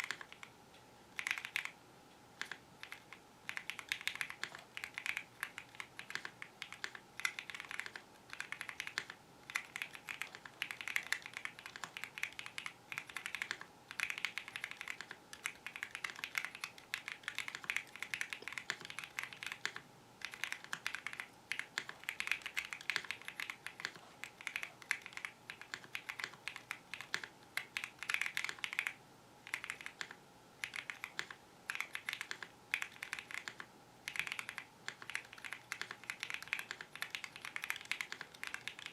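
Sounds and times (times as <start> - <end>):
mechanical keyboard typing: 0.0 - 0.5, 1.2 - 1.8, 2.4 - 38.9.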